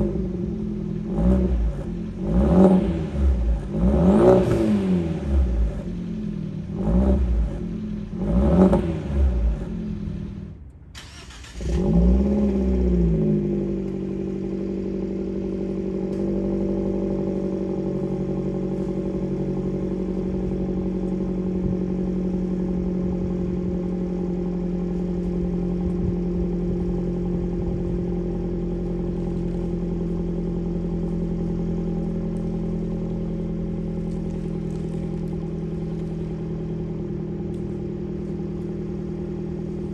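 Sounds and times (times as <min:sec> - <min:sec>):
car engine idling: 0:00.0 - 0:39.9
car engine throttle blips: 0:00.0 - 0:39.9.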